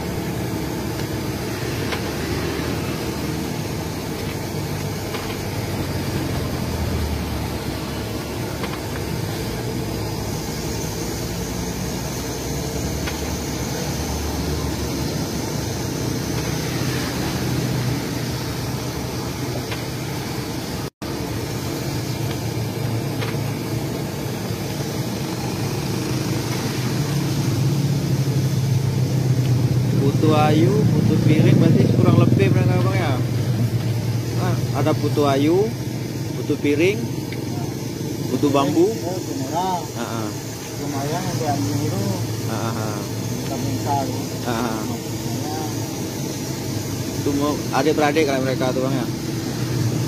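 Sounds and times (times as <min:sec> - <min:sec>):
low rumble of road traffic: 0:00.0 - 0:50.0.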